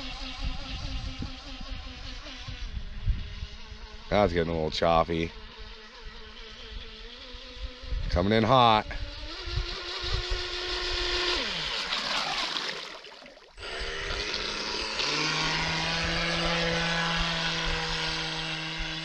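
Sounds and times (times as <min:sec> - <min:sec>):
model boat motor whining: 0:00.0 - 0:19.0.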